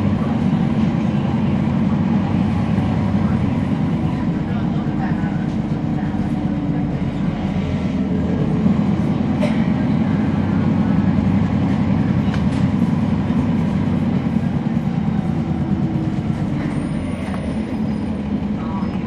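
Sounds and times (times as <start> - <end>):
bus engine low drone: 0.0 - 19.0.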